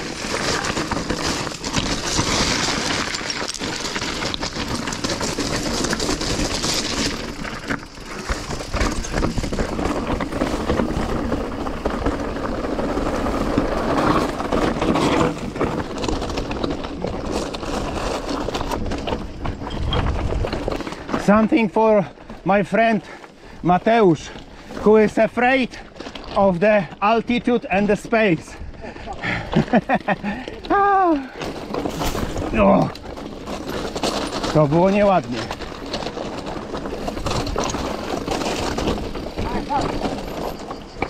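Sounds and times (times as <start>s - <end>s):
bike rattling and knocking: 0.0s - 41.0s
tyres running over loose stones: 0.0s - 41.0s.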